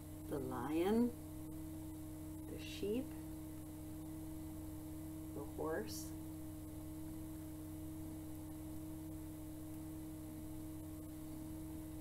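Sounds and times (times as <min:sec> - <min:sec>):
constant pitched tone: 0:00.0 - 0:12.0
steady background hum: 0:00.0 - 0:12.0.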